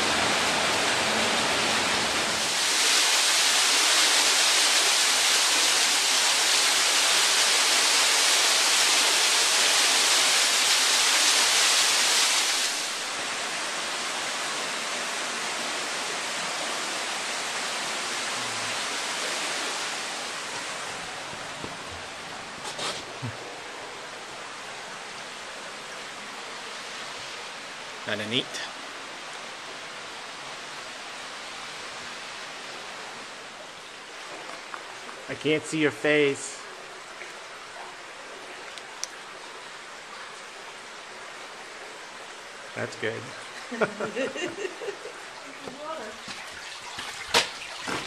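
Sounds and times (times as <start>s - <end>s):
waterfall rushing over rock: 0.0s - 36.8s, 39.3s - 48.0s.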